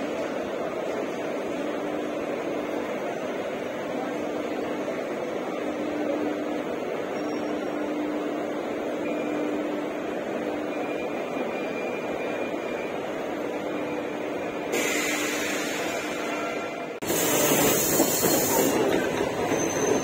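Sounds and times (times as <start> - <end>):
train coach rumbling: 0.0 - 20.0.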